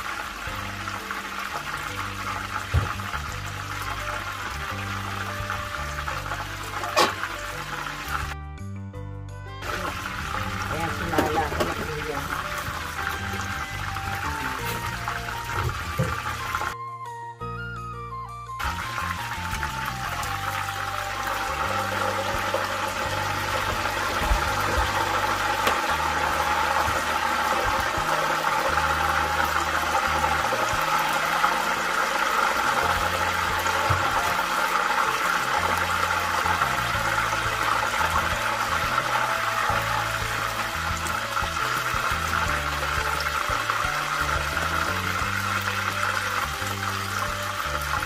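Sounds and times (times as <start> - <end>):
background music with bass line: 0.0 - 48.0.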